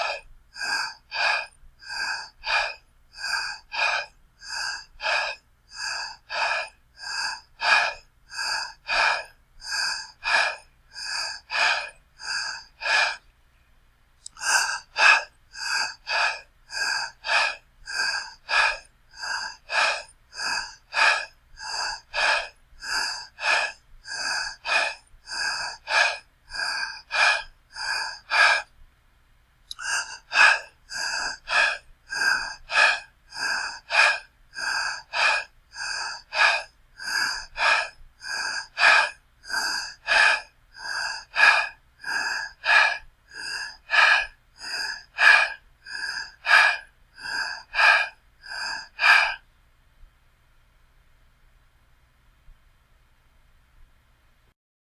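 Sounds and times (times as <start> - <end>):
person breathing fast and heavily: 0.0 - 13.3, 14.2 - 28.8, 29.7 - 49.5.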